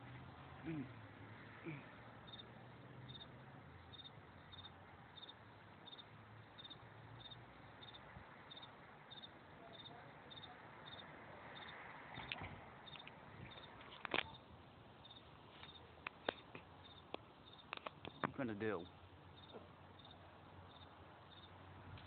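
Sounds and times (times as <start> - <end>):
cricket chirping: 0.6 - 21.7.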